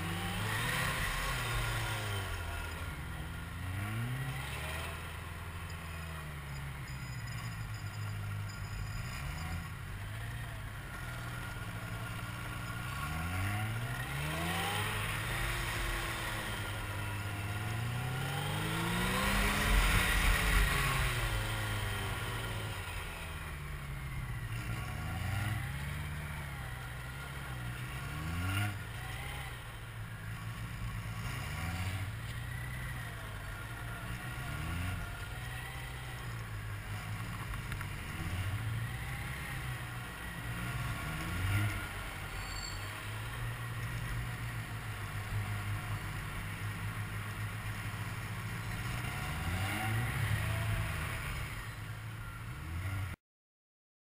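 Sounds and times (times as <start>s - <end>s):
motorcycle engine revving: 0.0s - 53.2s.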